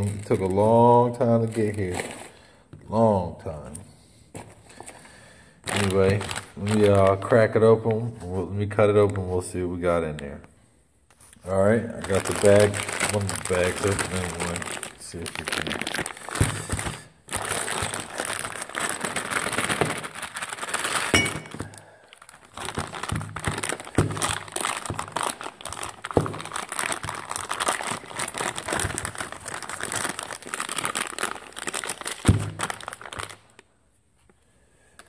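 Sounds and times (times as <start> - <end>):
plastic bag crinkling: 0.0 - 2.5, 4.4 - 7.6, 11.2 - 33.7.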